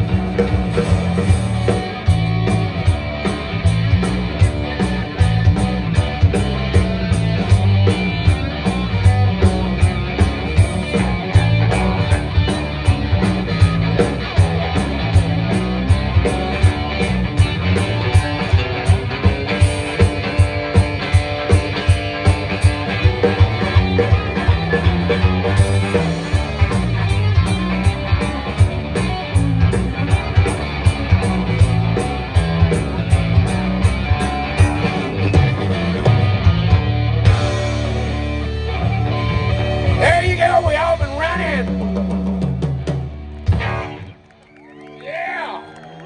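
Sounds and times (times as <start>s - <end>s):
bass and drums: 0.0s - 46.0s
country rock band playing: 0.0s - 46.0s
electric guitars: 0.0s - 46.0s.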